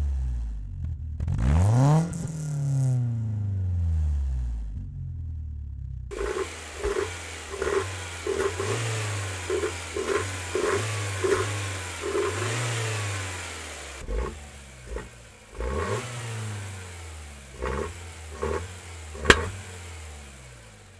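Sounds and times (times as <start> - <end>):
engine revving in throttle blips: 1.2 - 4.8, 6.1 - 20.9.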